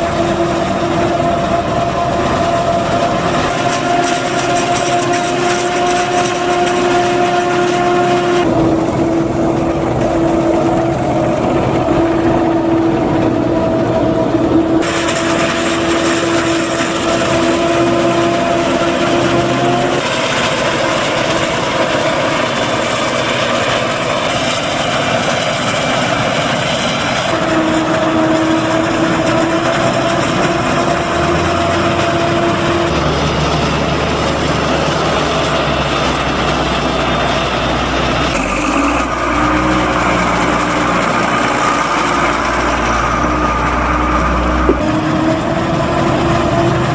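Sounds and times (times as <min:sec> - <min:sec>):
forage harvester machine drone: 0:00.0 - 0:46.9
machine whine: 0:00.0 - 0:46.9.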